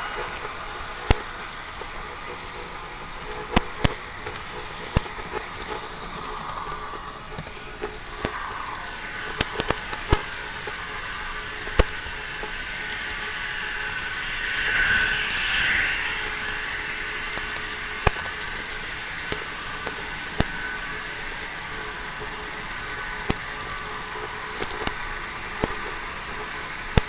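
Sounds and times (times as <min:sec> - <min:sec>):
model train rolling whirr: 0:00.0 - 0:27.0.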